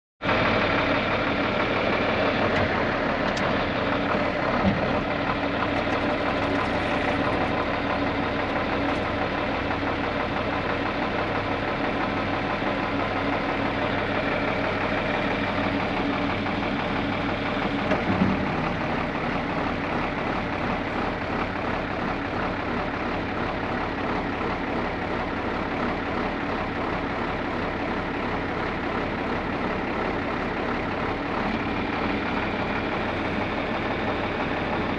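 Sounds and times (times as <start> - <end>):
diesel tractor engine idling: 0.2 - 34.9.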